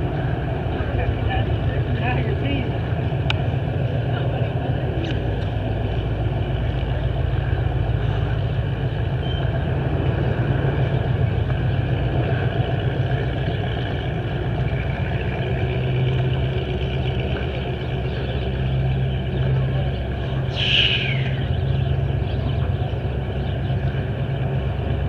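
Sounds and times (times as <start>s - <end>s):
vehicle engines idling: 0.0s - 25.0s.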